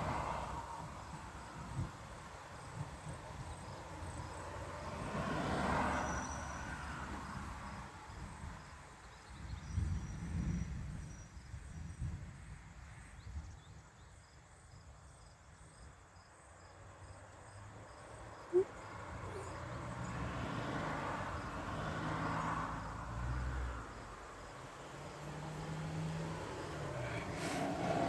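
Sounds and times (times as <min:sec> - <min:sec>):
faint crickets chirping: 0:00.0 - 0:28.0.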